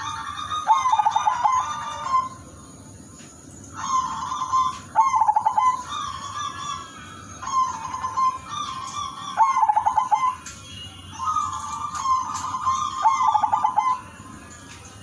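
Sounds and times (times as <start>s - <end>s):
dove cooing: 0.0s - 2.4s, 3.8s - 10.5s, 11.2s - 14.1s.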